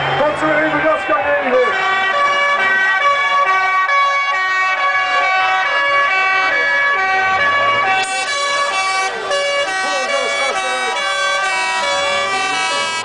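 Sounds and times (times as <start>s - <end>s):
crowd voices: 0.0s - 13.0s
engine revving: 1.5s - 13.0s
musical horn playing a tune: 1.5s - 13.0s.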